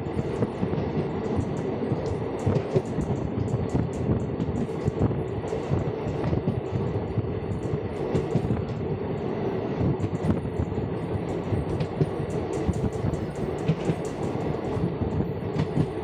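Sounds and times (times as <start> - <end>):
train knocks and rattles: 0.0 - 16.0
train wheels rumbling on rails: 0.0 - 16.0.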